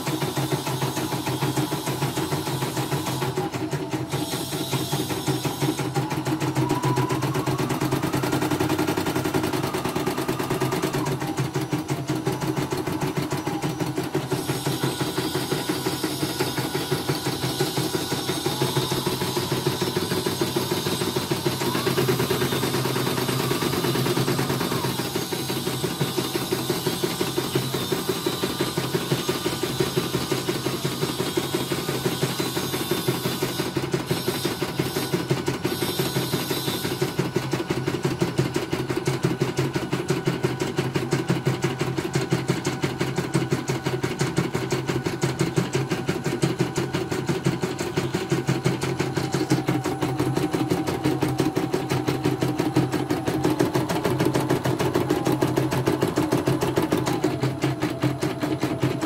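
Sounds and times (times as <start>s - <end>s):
motor hum: 0.0s - 59.0s.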